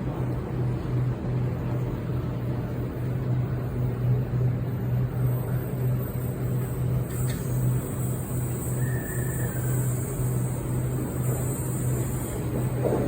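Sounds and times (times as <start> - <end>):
electric train humming at standstill: 0.0 - 13.0.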